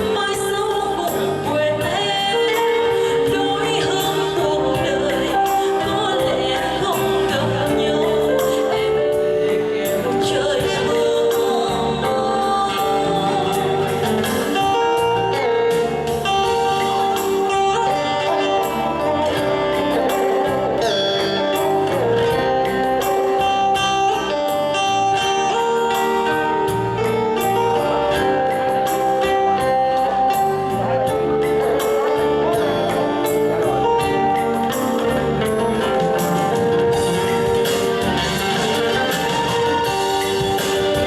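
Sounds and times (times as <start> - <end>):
live band playing with steady beat: 0.0 - 41.0
person singing: 0.0 - 41.0.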